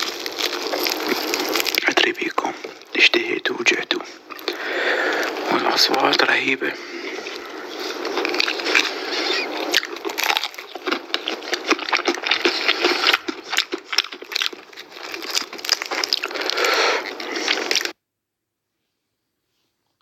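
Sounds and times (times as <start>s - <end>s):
fried chicken crunching while chewed: 0.0s - 18.0s.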